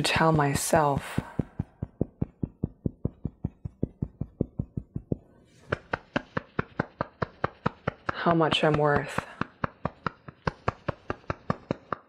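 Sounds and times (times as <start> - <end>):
fingertips tapping on body: 0.0 - 12.0.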